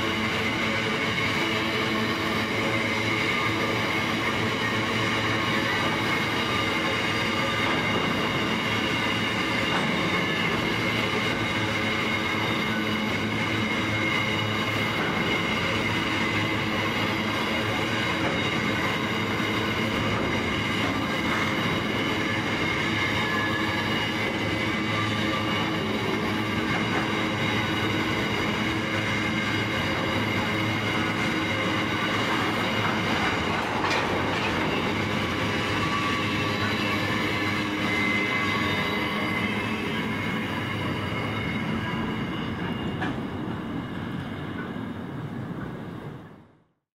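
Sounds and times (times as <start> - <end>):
steel wheels rumbling on track: 0.0 - 46.5.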